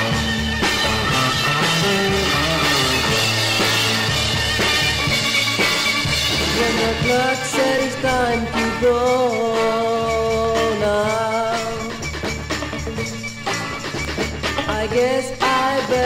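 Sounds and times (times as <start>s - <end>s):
sliding lead melody: 0.0s - 15.2s
instrumental rock music: 0.0s - 16.0s.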